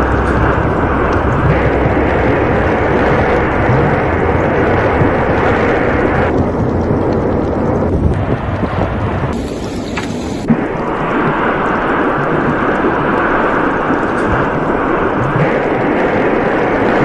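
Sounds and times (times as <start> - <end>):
loud steady rumbling roar: 0.0 - 17.0.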